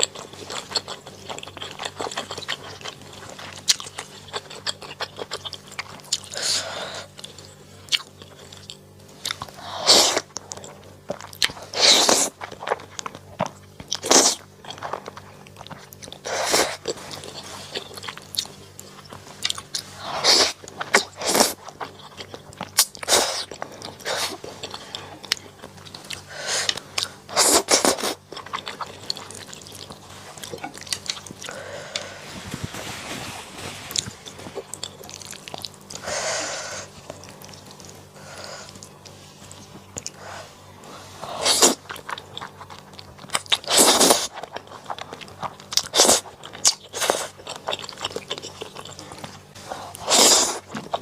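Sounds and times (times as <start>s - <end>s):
bites and chewing: 0.0s - 32.1s, 33.9s - 40.4s, 41.2s - 51.0s.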